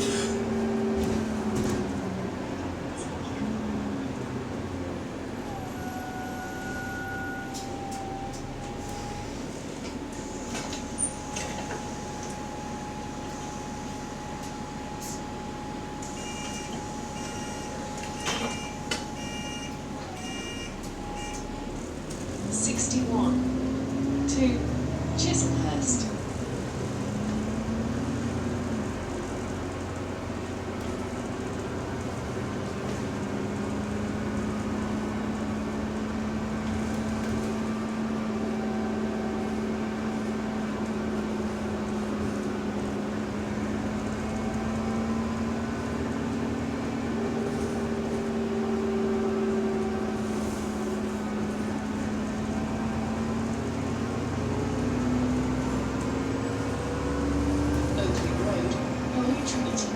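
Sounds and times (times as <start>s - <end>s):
bus axle whine: 0.0s - 59.9s
bus running rumble: 0.0s - 59.9s.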